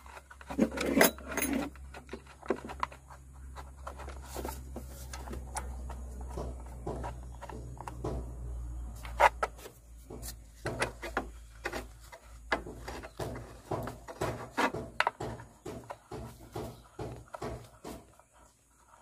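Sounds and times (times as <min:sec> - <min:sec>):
objects being handled: 0:00.0 - 0:19.0.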